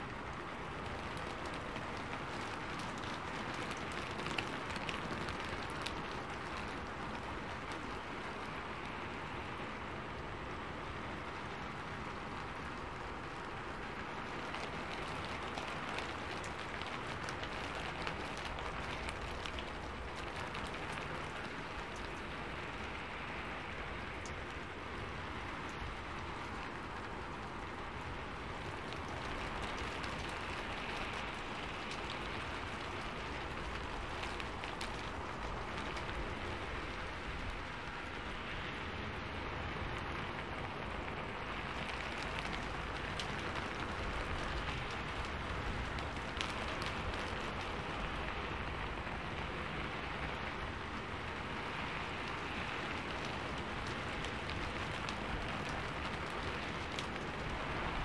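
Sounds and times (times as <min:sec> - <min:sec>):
raindrops ticking: 0:00.0 - 0:58.0
steady rain: 0:00.0 - 0:58.0.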